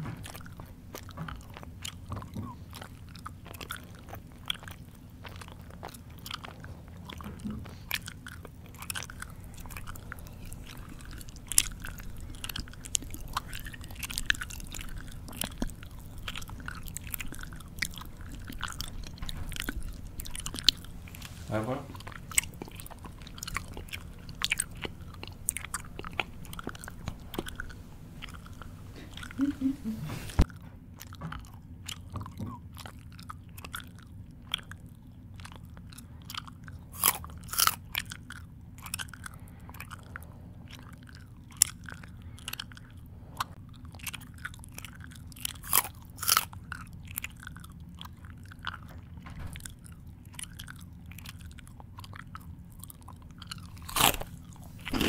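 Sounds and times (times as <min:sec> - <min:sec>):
person chewing with crunches: 0:00.0 - 0:55.0.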